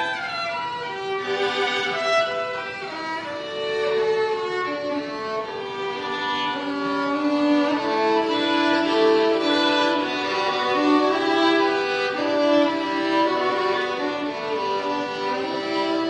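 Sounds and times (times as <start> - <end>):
violin playing long notes: 0.0 - 16.0.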